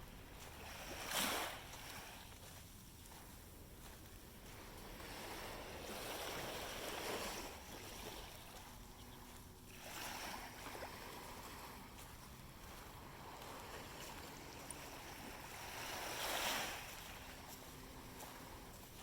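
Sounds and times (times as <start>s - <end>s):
waves washing onto sand: 0.0s - 19.0s.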